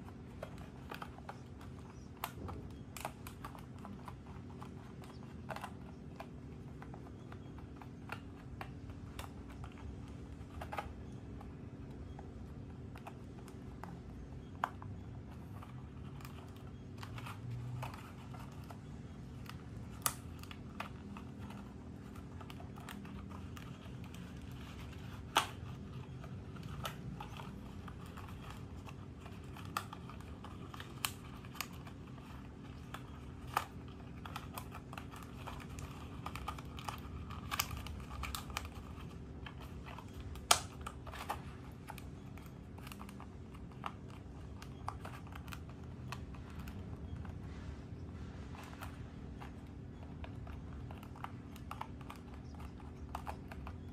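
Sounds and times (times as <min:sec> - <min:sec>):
paper and wire clicks: 0:00.0 - 0:53.9.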